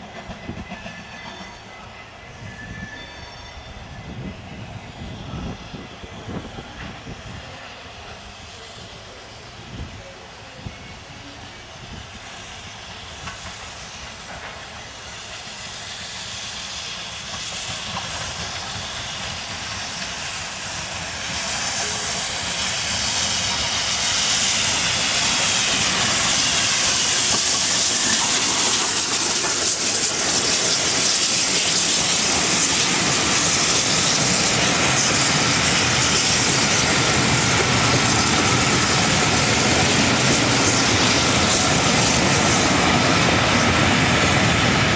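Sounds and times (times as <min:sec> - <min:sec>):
steam train running past: 0:00.0 - 0:44.9.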